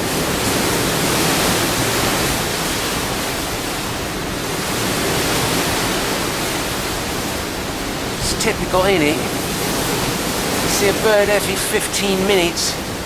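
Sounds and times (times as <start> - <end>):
sea: 0.0 - 13.0
wind: 0.0 - 13.0.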